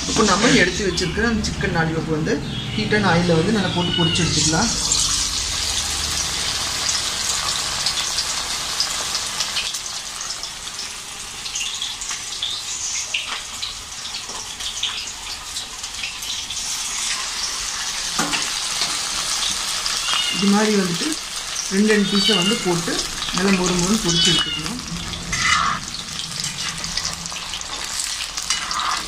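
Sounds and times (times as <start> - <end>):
chicken deep-frying in hot oil: 0.0 - 1.4, 2.6 - 29.0.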